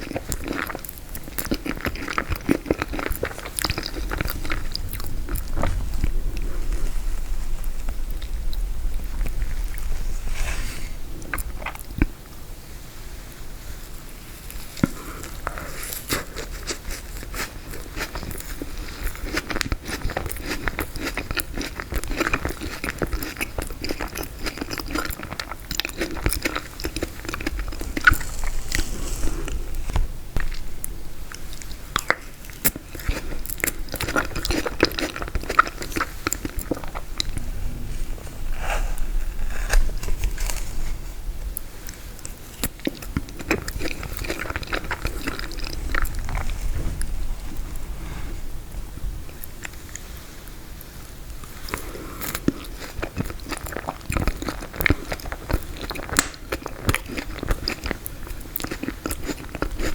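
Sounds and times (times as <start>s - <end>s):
chewing with crunches: 0.0s - 12.5s, 13.3s - 48.0s, 48.8s - 59.9s.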